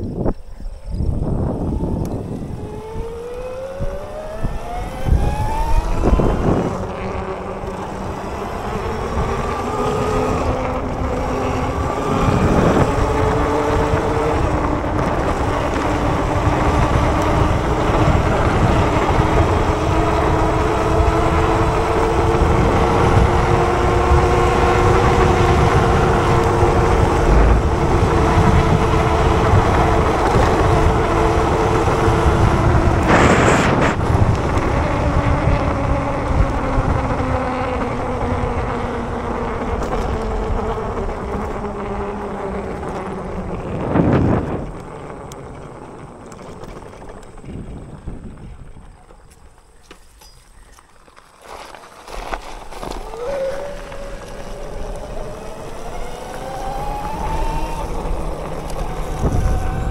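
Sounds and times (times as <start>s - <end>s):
electric bike motor whining: 0.0s - 59.9s.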